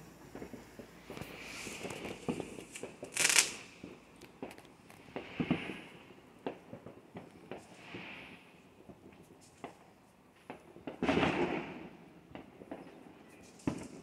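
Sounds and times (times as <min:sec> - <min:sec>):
firecrackers popping and banging: 0:00.0 - 0:14.0.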